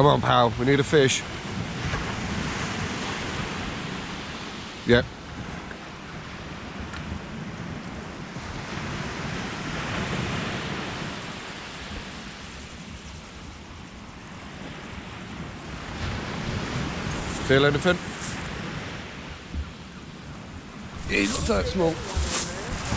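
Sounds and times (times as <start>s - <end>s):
wind rumbling on microphone: 0.0s - 22.9s
sea surf breaking on beach: 0.1s - 22.9s.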